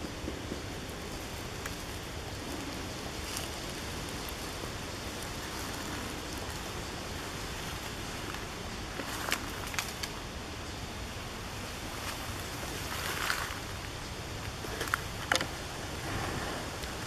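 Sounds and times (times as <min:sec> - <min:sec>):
breeze rustling leaves: 0:00.0 - 0:17.0.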